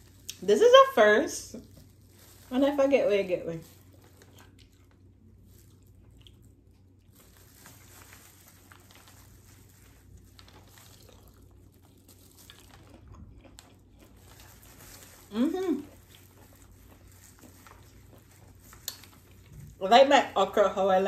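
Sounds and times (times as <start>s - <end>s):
chewing and crunching: 0.0s - 0.5s, 1.5s - 2.8s, 3.6s - 19.8s.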